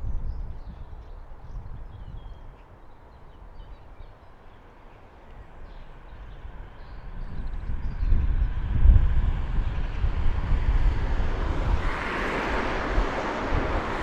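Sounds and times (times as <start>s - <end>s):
wind rumble on microphone: 0.0s - 4.1s, 5.3s - 14.0s.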